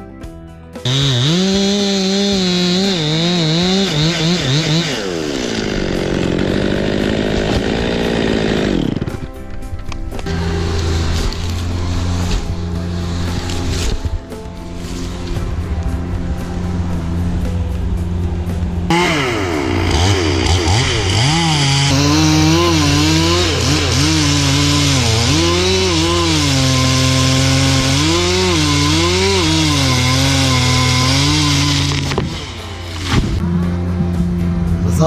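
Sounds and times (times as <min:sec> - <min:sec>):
chainsaw revving: 0:00.8 - 0:09.6, 0:10.2 - 0:33.5.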